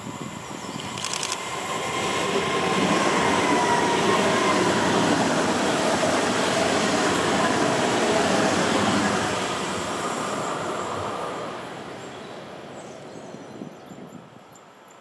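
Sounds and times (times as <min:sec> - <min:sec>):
train passing: 0:00.0 - 0:14.4.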